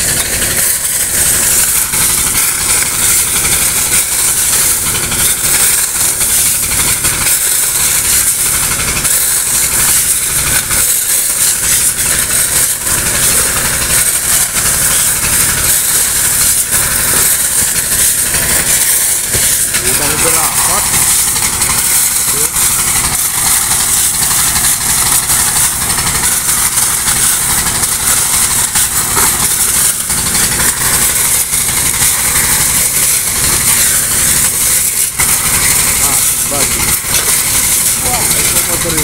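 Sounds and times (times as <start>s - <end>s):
engine running: 0.0s - 39.0s
water and gravel pouring: 0.0s - 39.0s.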